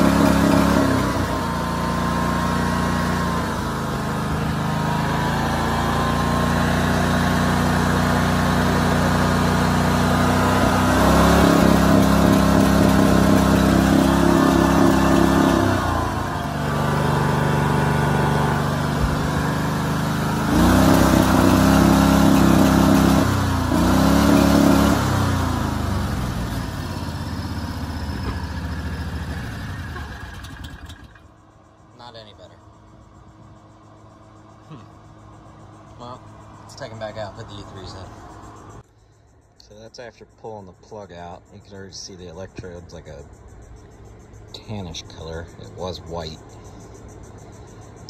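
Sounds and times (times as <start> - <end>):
engine revving: 0.0 - 38.8.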